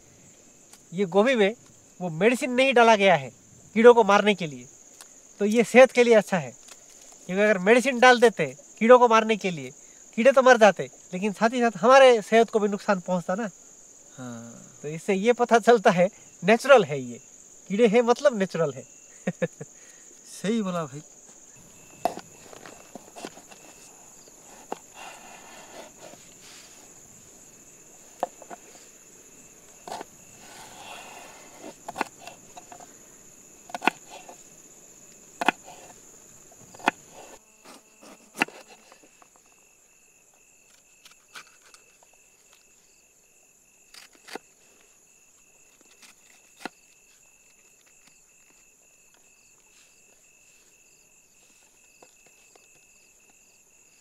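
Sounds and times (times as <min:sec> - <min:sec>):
crickets chirping: 0:00.0 - 0:54.0
lower insect trill: 0:00.0 - 0:54.0.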